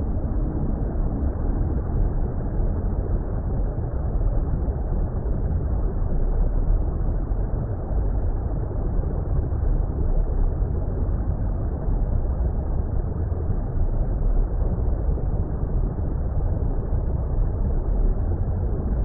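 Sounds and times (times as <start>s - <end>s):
muffled underwater water rumble: 0.0s - 19.0s.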